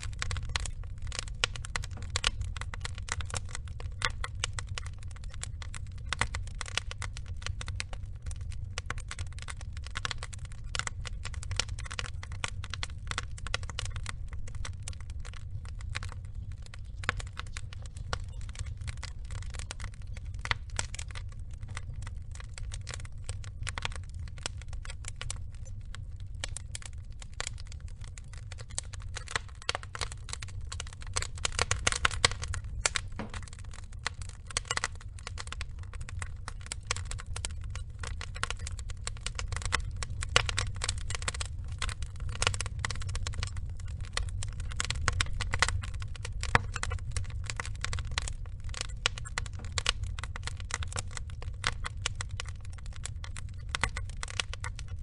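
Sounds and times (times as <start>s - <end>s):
burning logs crackling: 0.0s - 55.0s
low fire rumble: 0.0s - 55.0s.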